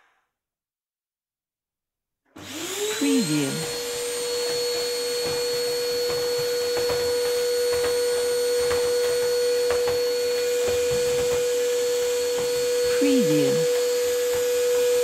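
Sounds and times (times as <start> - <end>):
vacuum cleaner running: 2.4 - 15.0.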